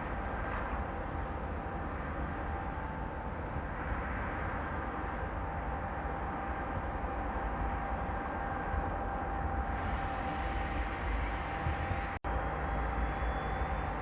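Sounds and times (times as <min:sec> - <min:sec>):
wind buffeting microphone: 0:00.0 - 0:12.6
distant jet engines running: 0:00.0 - 0:14.0.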